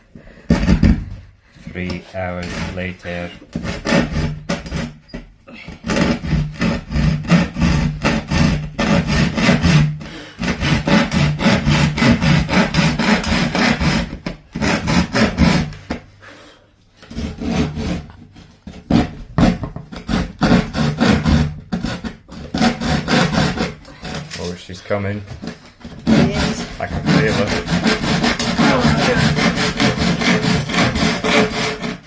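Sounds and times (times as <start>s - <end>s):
hand saw cutting wood: 1.7s - 16.1s, 17.0s - 32.0s.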